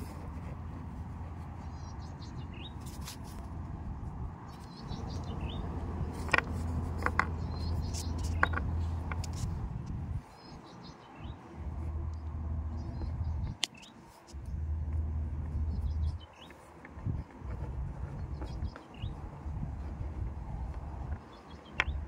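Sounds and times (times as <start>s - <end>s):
birds chirping: 0.0s - 3.5s, 4.2s - 22.0s
steady low rumble: 0.0s - 22.0s.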